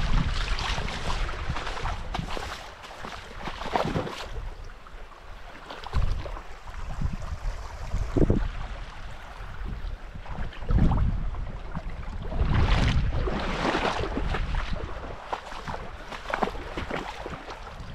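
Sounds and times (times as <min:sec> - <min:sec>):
wind buffeting microphone: 0:00.0 - 0:04.8, 0:05.8 - 0:17.9.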